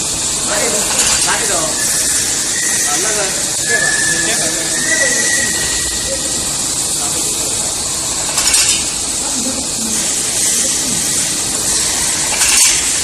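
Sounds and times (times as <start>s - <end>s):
metal spinning machine hissing: 0.0s - 13.0s.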